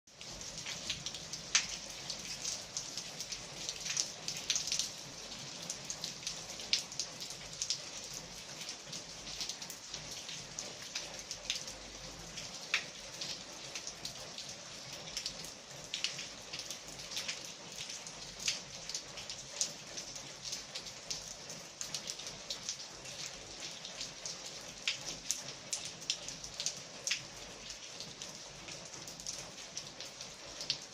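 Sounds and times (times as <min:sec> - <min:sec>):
rain falling: 0:00.1 - 0:30.9
raindrops tapping close by: 0:00.1 - 0:30.9.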